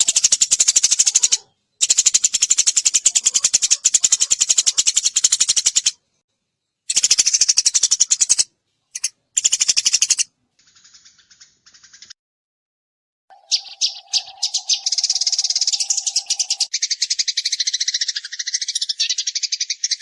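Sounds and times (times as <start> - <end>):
sparrow chattering trill: 0.0 - 6.0, 6.9 - 12.1, 13.3 - 20.0.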